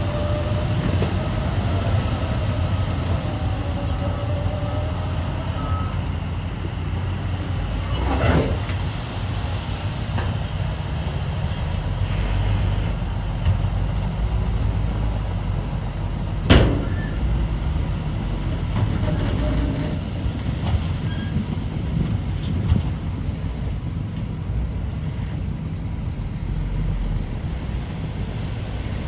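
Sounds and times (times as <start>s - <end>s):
heavy machinery diesel engines: 0.0s - 29.0s.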